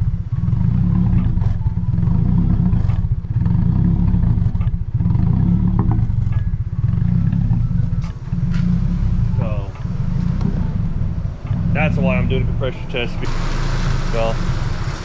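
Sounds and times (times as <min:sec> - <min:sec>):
car engine idling rough: 0:00.0 - 0:15.0.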